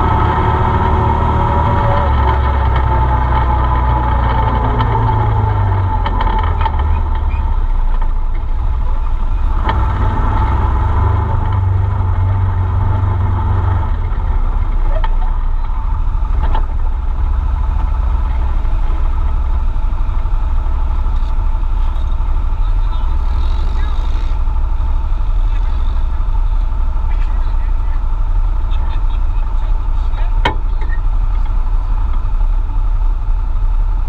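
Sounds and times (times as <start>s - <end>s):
deep engine drone: 0.0s - 34.0s.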